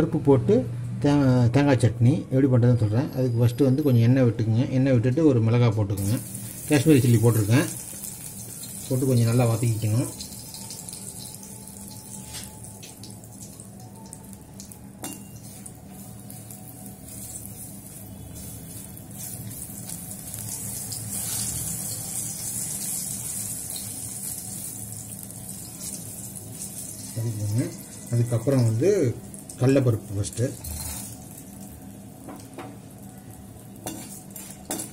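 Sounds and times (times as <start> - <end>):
chilli sizzling in oil: 6.0 - 34.9.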